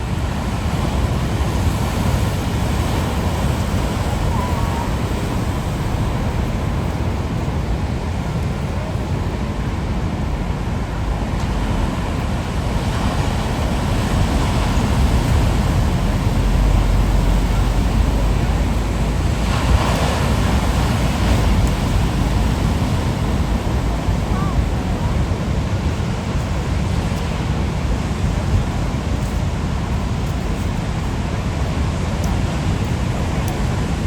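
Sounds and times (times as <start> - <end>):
surf breaking on rocky shore: 0.0 - 34.0
wind buffeting microphone: 0.0 - 34.0.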